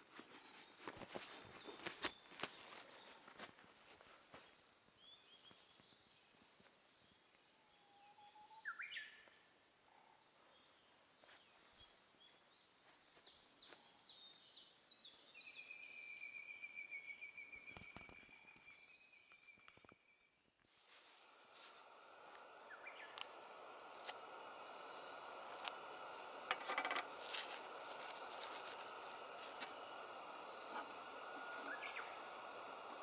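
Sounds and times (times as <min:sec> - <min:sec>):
small birds chirping: 0:00.0 - 0:03.6, 0:04.2 - 0:33.0.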